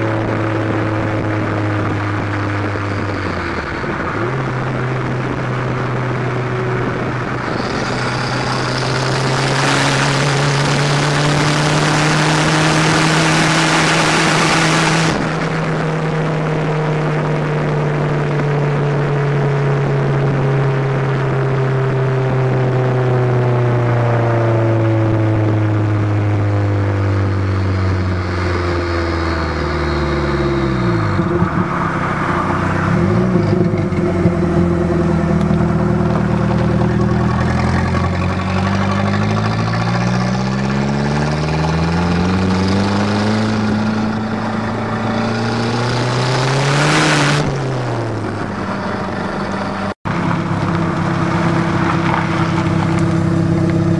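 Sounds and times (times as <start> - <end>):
car exhaust while driving: 0.0 - 53.9.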